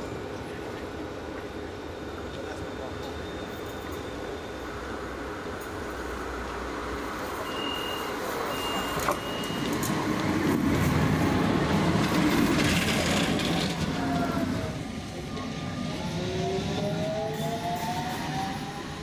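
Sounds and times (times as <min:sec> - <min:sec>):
tram rumbling past: 0:00.0 - 0:19.0.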